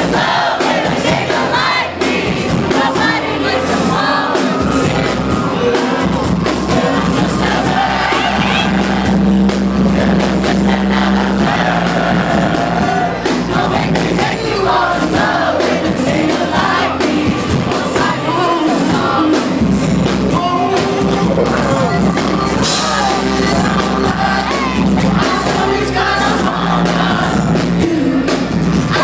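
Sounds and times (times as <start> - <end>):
concert crowd: 0.0 - 29.0
live r and b song with singing: 0.0 - 29.0.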